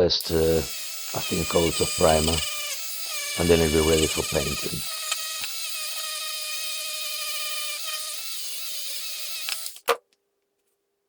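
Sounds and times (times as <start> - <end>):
rotary tool whining: 0.2 - 10.0.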